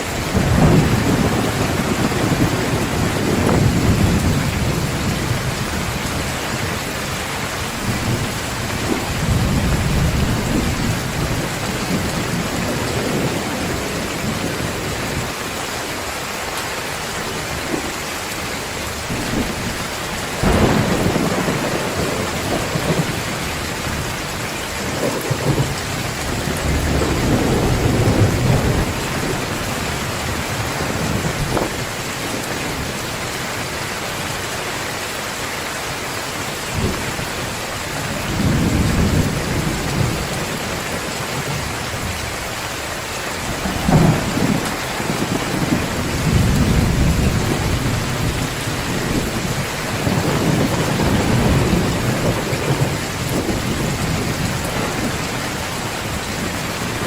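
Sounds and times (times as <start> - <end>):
thunder rumbling: 0.0 - 15.6, 18.7 - 33.7, 36.7 - 57.0
heavy rain pouring: 0.0 - 57.0.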